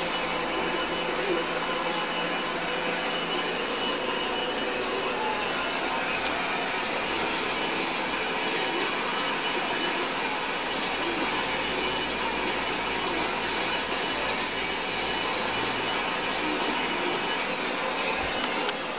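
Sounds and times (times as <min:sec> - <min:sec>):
steam engine hissing: 0:00.0 - 0:18.9.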